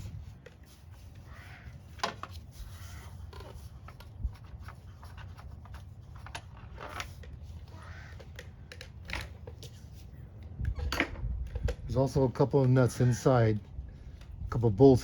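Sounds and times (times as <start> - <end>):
hand tools scraping and clicking: 0.0 - 13.0.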